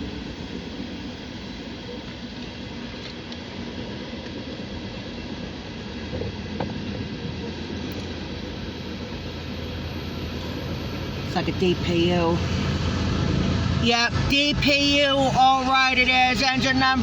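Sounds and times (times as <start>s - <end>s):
diesel engine hum: 0.0s - 17.0s
train wheels rumbling on rail: 0.0s - 17.0s.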